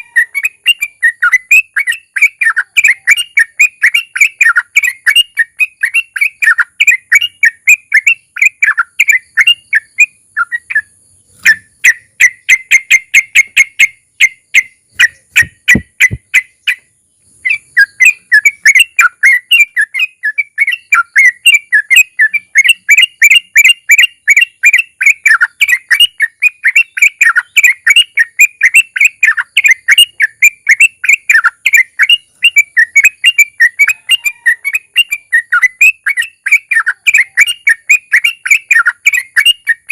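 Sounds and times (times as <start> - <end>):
bird singing fast chattering trill: 0.0 - 39.9.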